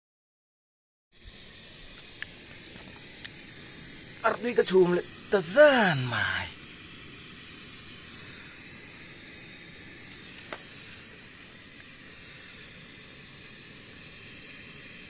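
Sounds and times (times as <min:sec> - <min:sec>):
gas stove burner hissing: 0:01.2 - 0:15.0.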